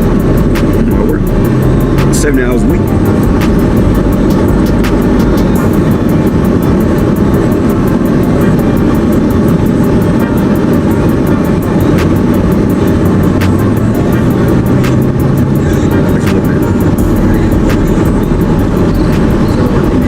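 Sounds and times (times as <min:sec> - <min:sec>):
car driving rumble from inside: 0:00.0 - 0:20.0.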